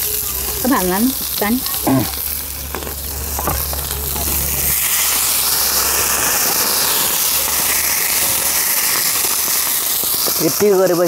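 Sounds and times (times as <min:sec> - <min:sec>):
hot pan hissing and sizzling: 0:00.0 - 0:11.0.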